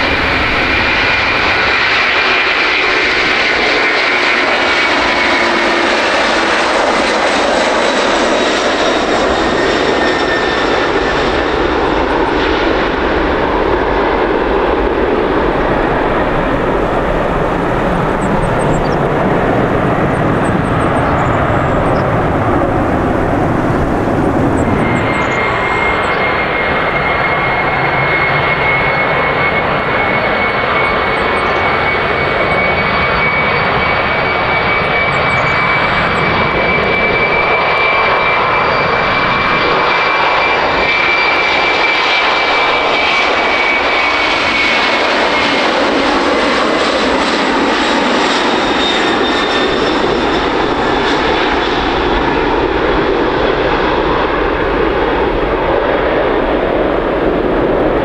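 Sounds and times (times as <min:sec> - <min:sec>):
jet engines roaring at takeoff: 0:00.0 - 0:58.0.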